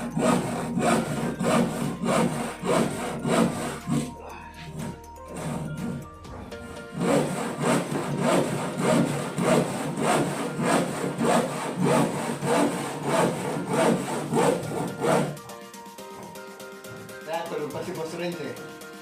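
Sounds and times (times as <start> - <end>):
hand saw cutting wood: 0.0 - 15.5.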